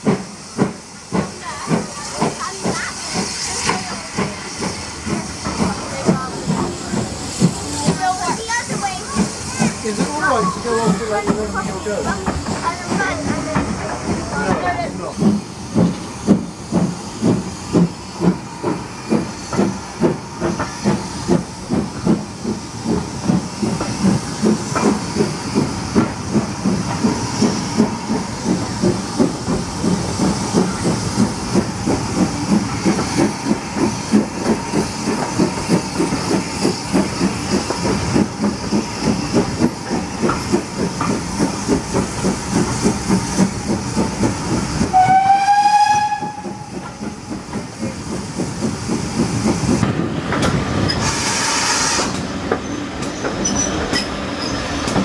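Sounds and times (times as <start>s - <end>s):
steam hissing: 0.0s - 55.0s
steam locomotive chuffing: 0.0s - 55.0s.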